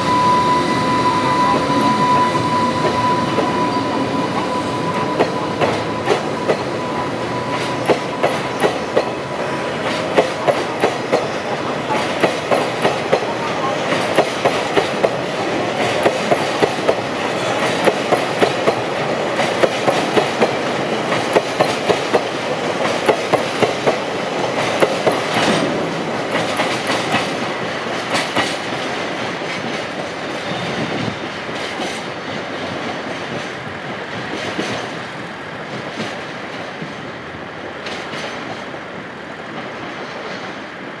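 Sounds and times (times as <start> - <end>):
train wheels clattering on rails: 0.1 - 41.0.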